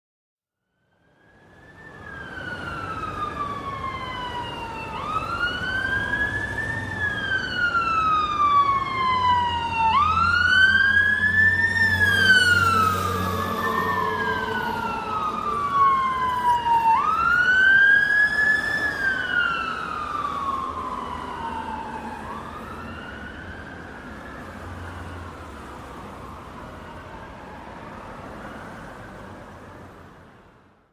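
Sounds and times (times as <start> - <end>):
emergency vehicle siren wailing: 1.0 - 30.4
vehicle rumble: 2.2 - 30.1.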